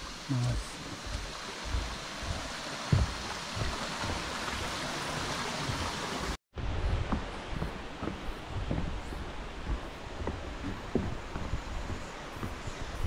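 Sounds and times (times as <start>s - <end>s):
mountain stream rushing: 0.0s - 13.0s
dull low thumps: 0.5s - 4.8s, 6.6s - 13.0s.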